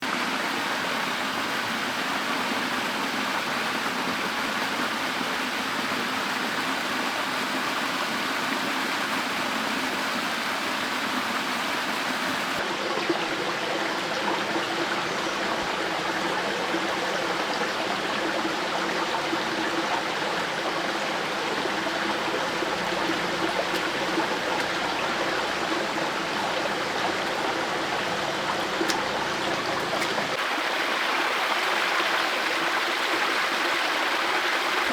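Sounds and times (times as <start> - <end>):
stream water running: 0.0 - 34.9.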